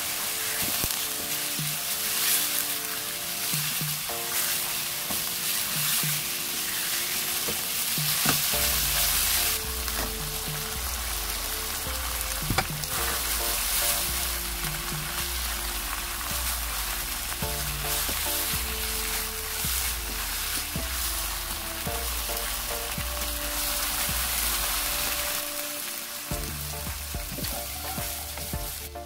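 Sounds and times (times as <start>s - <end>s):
meat sizzling in a wok: 0.0s - 29.0s.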